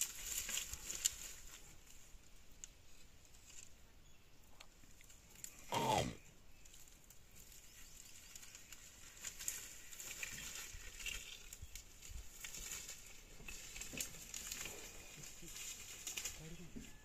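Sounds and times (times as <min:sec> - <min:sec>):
rustling of dry grass: 0:00.0 - 0:17.0.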